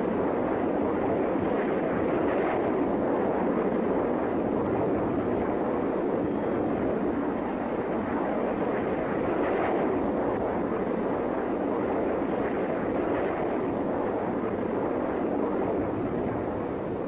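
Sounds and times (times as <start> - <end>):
jet engine rumble in flight: 0.0 - 17.0.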